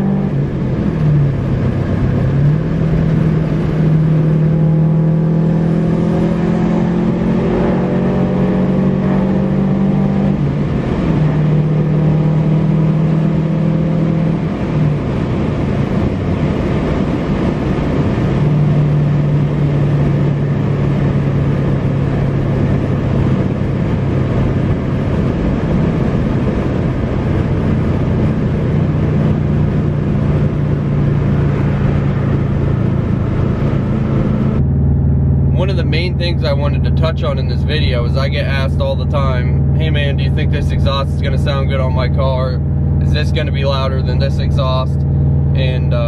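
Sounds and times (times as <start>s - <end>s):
car engine droning: 0.0s - 46.0s
tyre and road noise: 0.0s - 46.0s.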